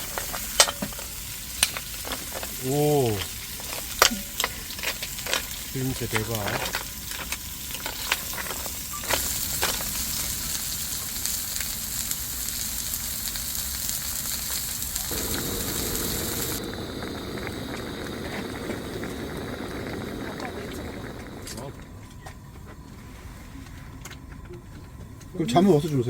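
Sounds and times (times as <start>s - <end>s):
food sizzling in oil: 0.0s - 21.8s.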